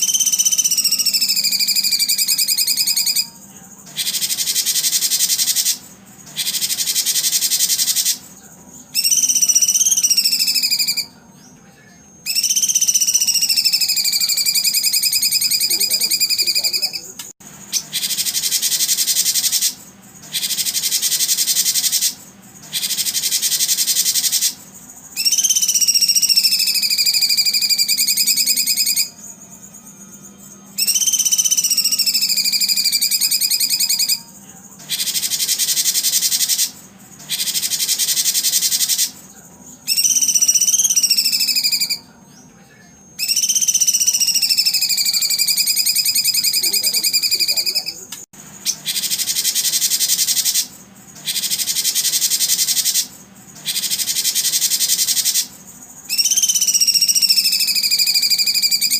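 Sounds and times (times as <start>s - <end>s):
buzzy birdsong trills: 0.0s - 58.9s.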